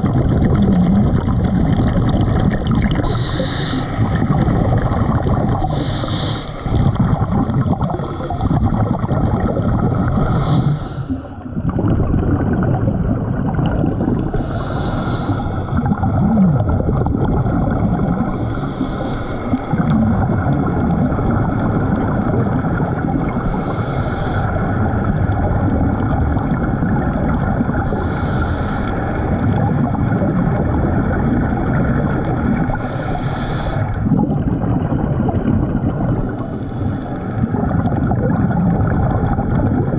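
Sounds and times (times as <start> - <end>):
hiss of exhaled bubbles: 0.0 - 39.9
underwater regulator rumble: 0.0 - 39.9.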